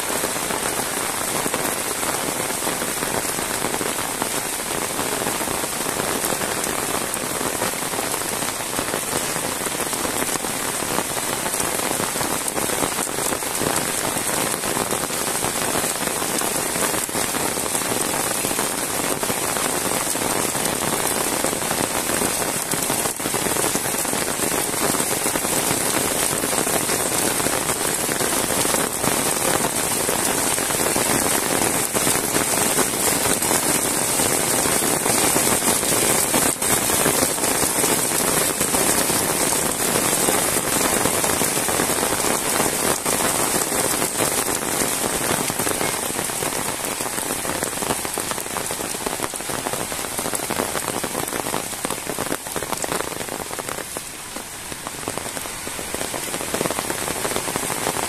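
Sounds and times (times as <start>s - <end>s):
heavy rain on wet road: 0.0s - 58.0s.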